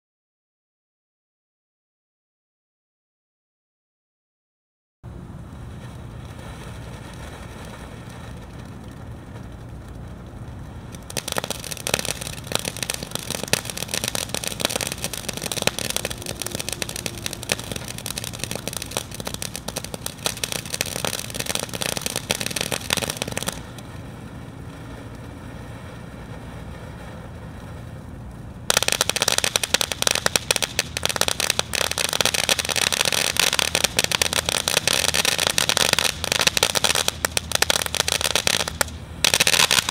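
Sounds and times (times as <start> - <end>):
firework crackling: 5.0 - 39.9
firework fountain hissing: 5.1 - 39.9.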